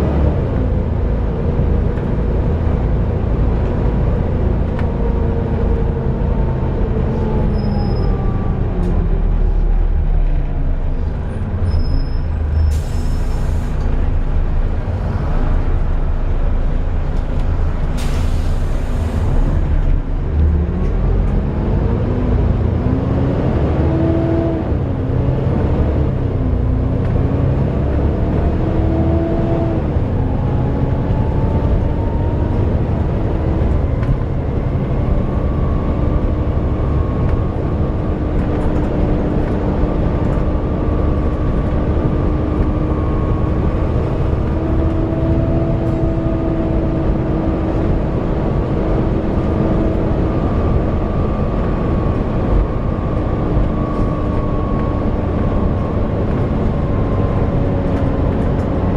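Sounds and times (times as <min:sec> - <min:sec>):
diesel engine rumble: 0:00.0 - 0:58.9.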